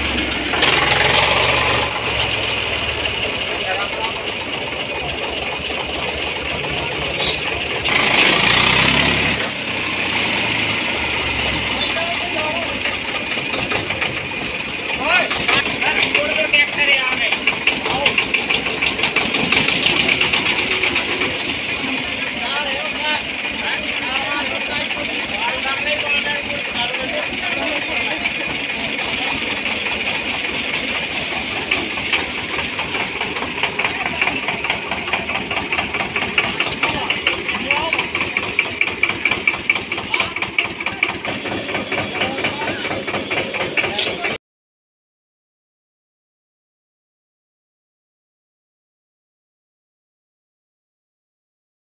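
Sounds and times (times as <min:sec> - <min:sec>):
tractor diesel engine revving: 0:00.0 - 0:44.4.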